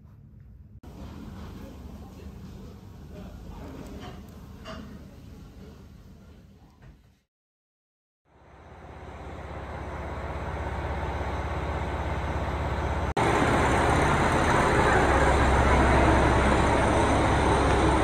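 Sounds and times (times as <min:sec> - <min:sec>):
trains rumbling at platform: 0:00.9 - 0:05.9, 0:08.4 - 0:18.0.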